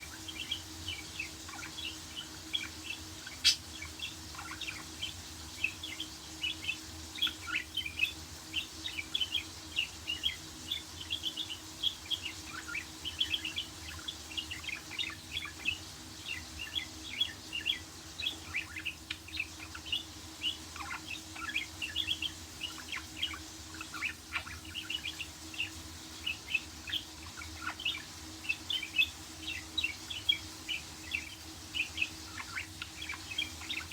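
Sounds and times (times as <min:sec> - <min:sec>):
budgies chirping and warbling: 0:00.0 - 0:33.9.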